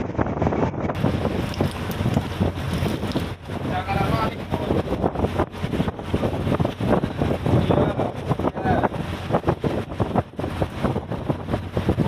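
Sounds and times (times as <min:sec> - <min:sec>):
boat engine low rumble: 0:00.0 - 0:12.0
wind buffeting microphone: 0:00.0 - 0:12.0.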